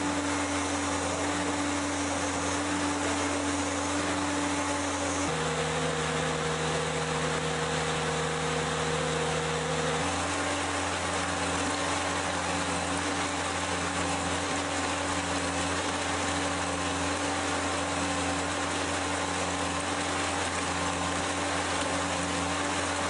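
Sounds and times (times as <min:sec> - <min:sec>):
mixer pump humming and hissing: 0:00.0 - 0:23.0.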